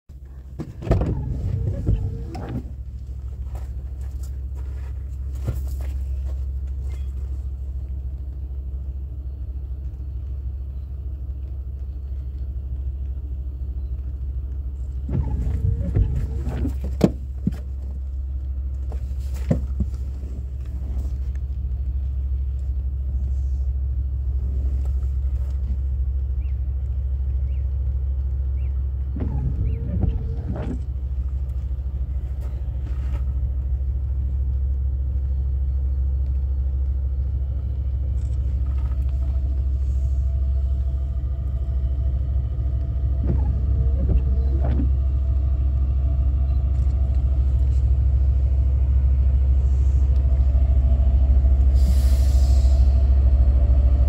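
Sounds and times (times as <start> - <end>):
locomotives rumbling under load: 0.1 - 54.0.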